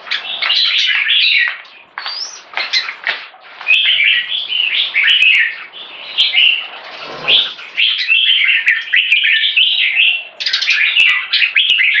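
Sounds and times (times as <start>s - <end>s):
bird singing chirping phrases: 0.0s - 12.0s.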